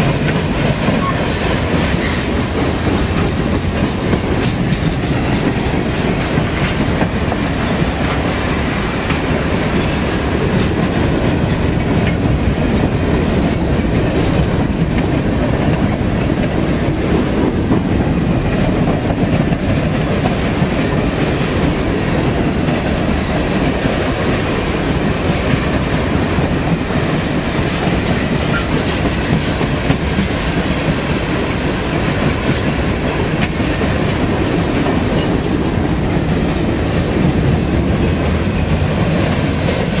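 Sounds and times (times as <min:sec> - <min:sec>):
freight train wheels rumbling: 0:00.0 - 0:40.0.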